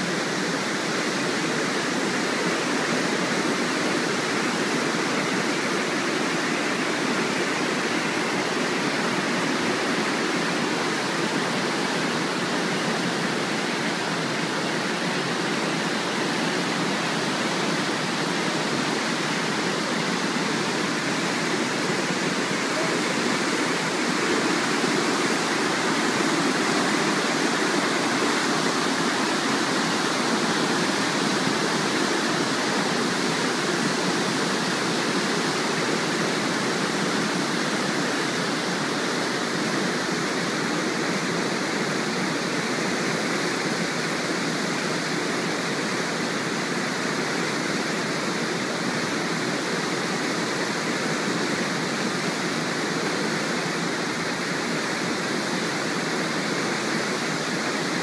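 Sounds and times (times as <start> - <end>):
ship wake water rushing: 0.0 - 58.0.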